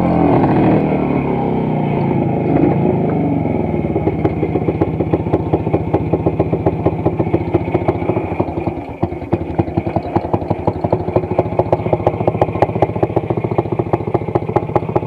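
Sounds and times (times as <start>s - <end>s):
motorcycle engine idling: 1.2s - 15.0s.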